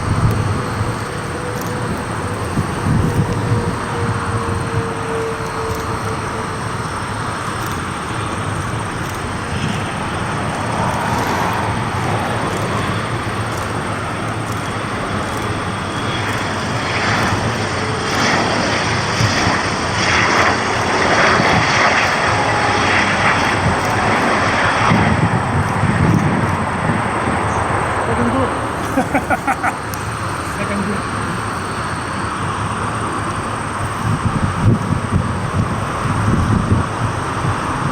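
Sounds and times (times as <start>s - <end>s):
jet engines rushing: 0.0s - 37.9s.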